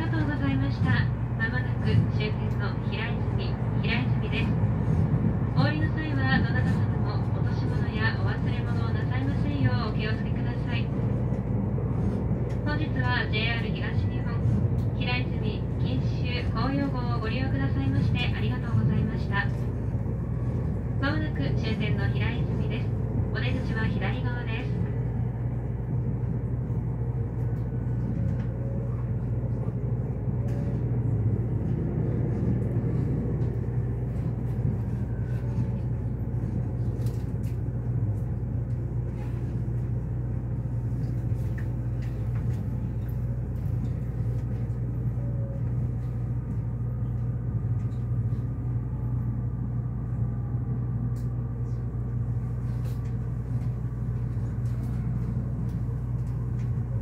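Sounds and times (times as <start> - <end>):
train interior hum: 0.0 - 57.0
wheels rumbling on rail: 0.0 - 57.0.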